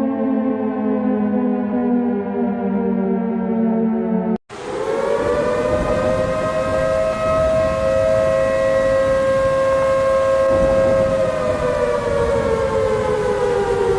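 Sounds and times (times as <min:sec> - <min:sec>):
warning siren wailing: 0:00.0 - 0:13.9.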